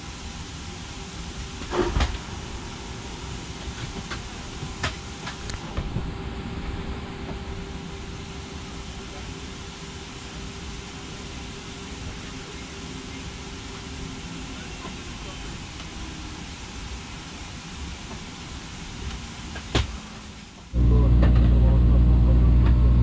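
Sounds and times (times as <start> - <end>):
cabin ventilation hiss: 0.0 - 23.0
steady hum: 0.0 - 23.0.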